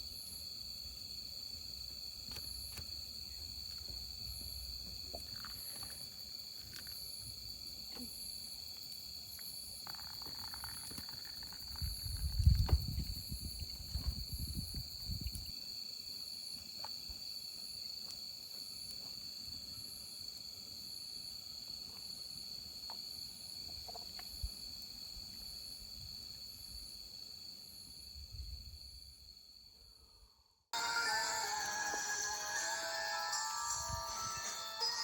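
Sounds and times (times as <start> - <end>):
crickets trilling: 0.0 - 35.0
insect chirp: 0.0 - 35.0.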